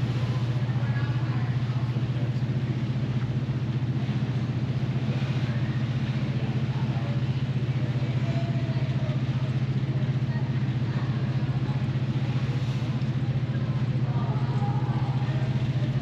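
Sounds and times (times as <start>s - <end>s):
faint passenger voices: 0.0s - 16.0s
ferry engines humming: 0.0s - 16.0s.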